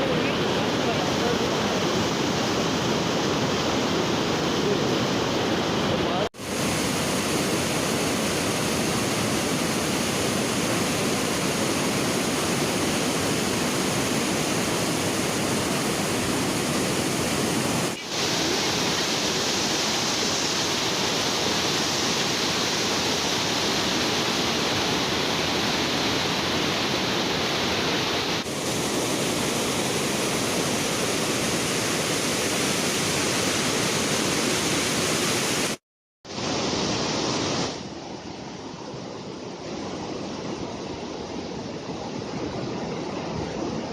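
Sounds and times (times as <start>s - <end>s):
water rushing through dam: 0.0s - 43.9s.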